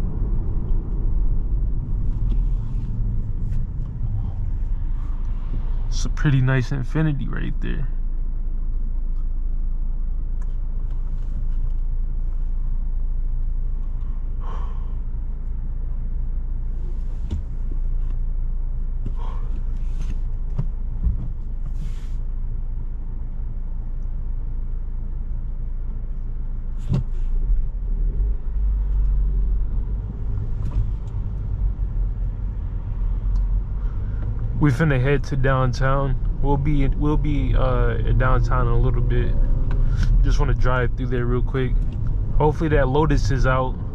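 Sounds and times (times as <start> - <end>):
engine and road rumble: 0.0 - 43.9.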